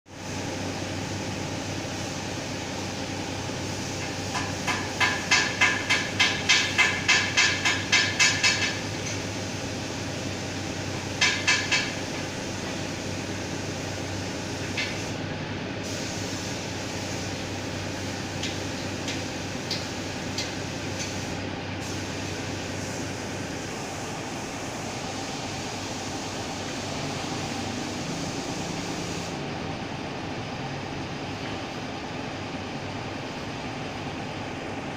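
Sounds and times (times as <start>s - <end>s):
steady background noise: 0.1s - 34.9s.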